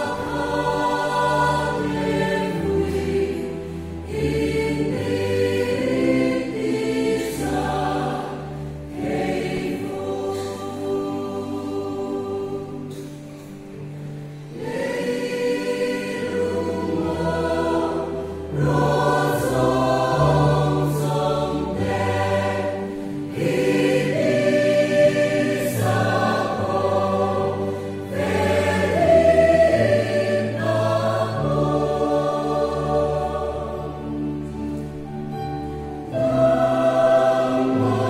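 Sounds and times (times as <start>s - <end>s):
mixed choir singing a hymn: 0.0s - 38.0s.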